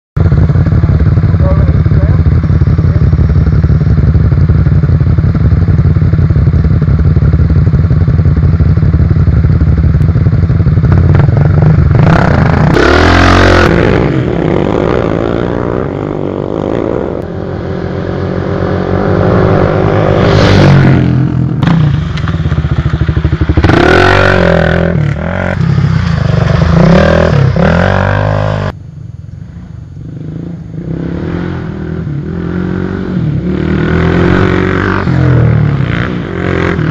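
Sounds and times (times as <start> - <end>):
motorbike engines revving: 0.2 - 28.8, 29.9 - 36.9.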